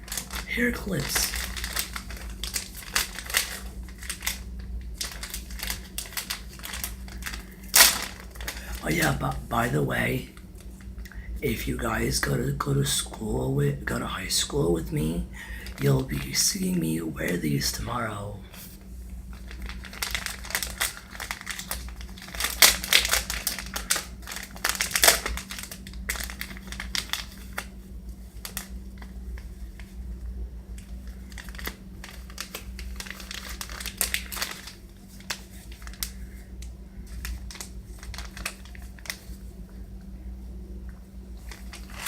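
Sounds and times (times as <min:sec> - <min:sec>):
packaging crinkling: 0:00.0 - 0:12.6, 0:14.5 - 0:30.0, 0:30.8 - 0:39.5, 0:41.4 - 0:42.0
steady low hum: 0:00.0 - 0:42.0.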